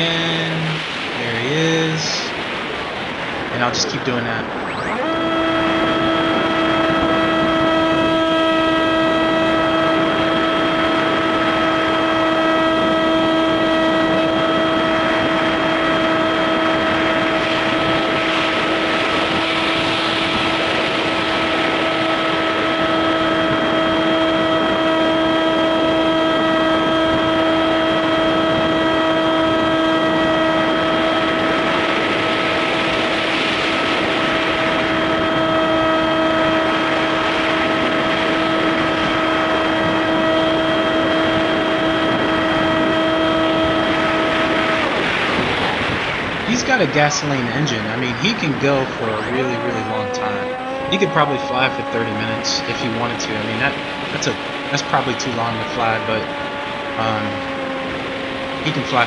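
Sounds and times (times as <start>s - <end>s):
electric motor and propeller whine: 0.0s - 59.0s
wind rush: 0.0s - 59.0s.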